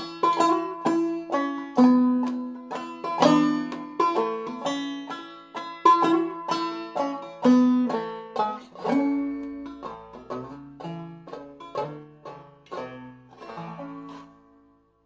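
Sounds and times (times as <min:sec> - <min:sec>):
banjo playing: 0:00.0 - 0:15.0.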